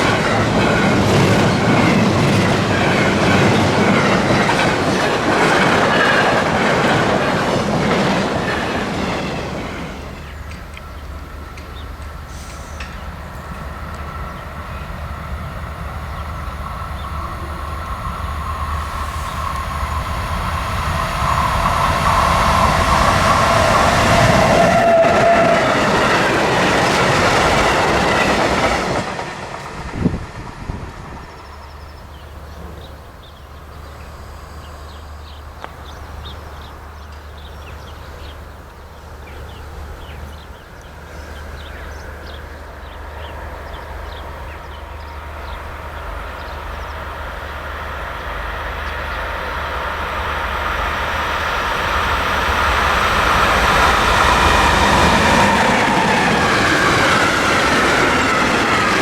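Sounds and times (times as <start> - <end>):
train passing: 0.0 - 59.0.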